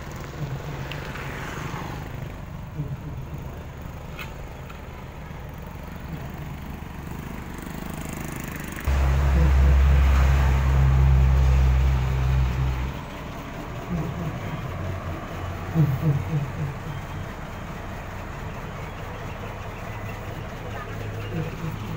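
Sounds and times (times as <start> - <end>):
truck engine running: 0.0 - 21.9.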